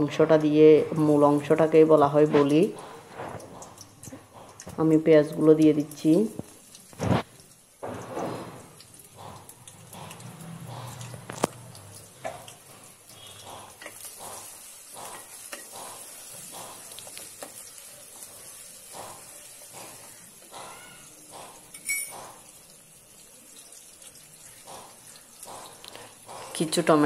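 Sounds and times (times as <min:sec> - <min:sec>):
onions sizzling in oil: 0:00.4 - 0:10.2, 0:10.9 - 0:27.0.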